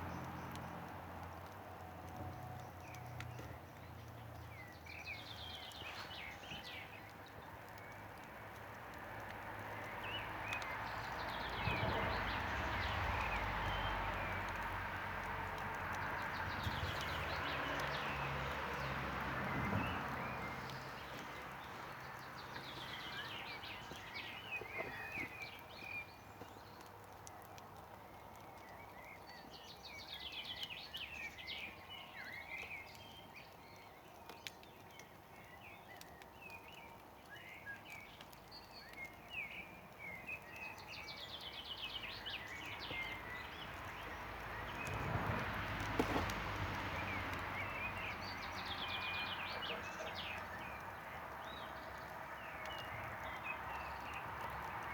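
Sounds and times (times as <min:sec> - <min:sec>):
campfire crackling and popping: 0:00.0 - 0:54.9
birds singing: 0:02.1 - 0:45.5, 0:46.9 - 0:54.9.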